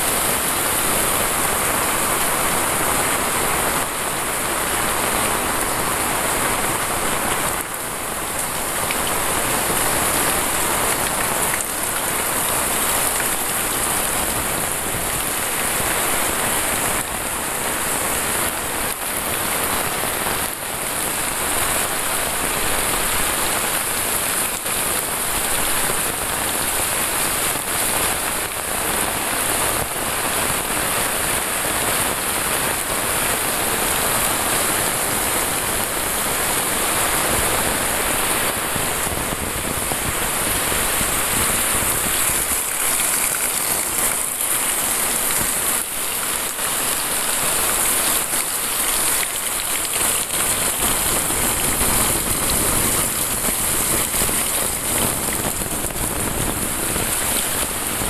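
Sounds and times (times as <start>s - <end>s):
heavy rain on concrete: 0.0s - 58.0s.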